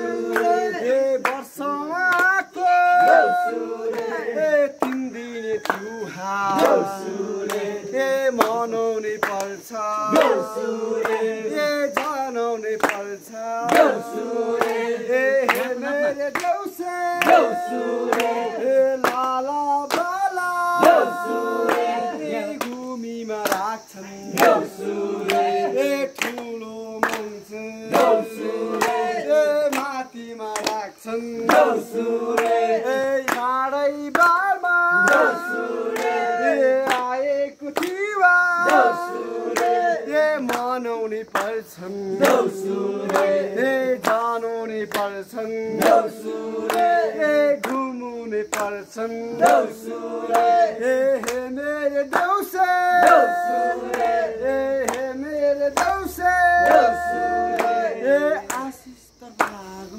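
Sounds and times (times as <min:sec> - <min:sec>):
group singing: 0:00.0 - 0:59.9
hand claps: 0:00.2 - 0:47.9, 0:48.5 - 0:59.8.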